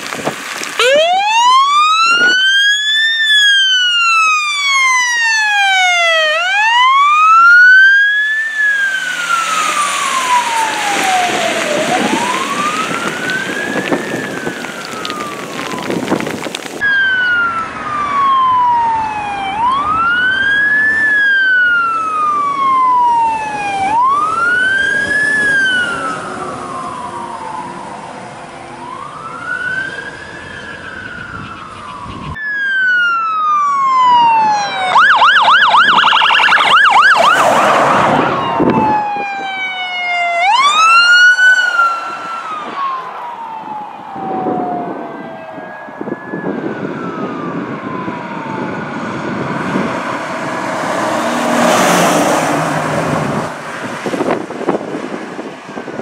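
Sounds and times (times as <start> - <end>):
fire truck siren wailing: 0.0 - 56.0
siren yelp: 0.8 - 54.8.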